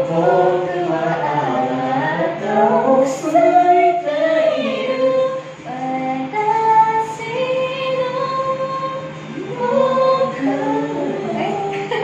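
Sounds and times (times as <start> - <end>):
person singing slow melody: 0.0 - 12.0.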